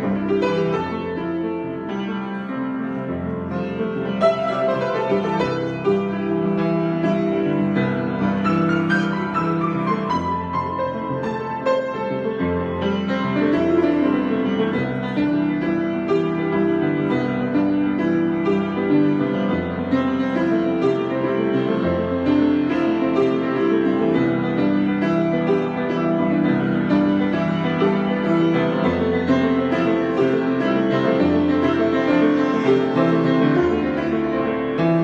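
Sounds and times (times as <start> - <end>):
piano improvisation: 0.0 - 35.0.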